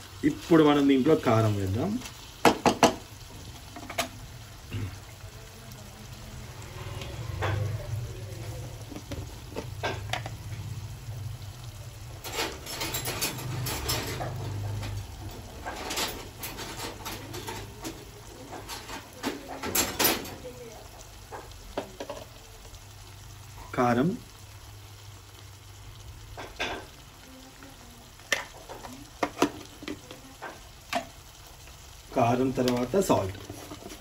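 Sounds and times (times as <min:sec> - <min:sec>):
food sizzling in oil: 0:00.0 - 0:34.0
oil spatter crackling: 0:00.0 - 0:34.0.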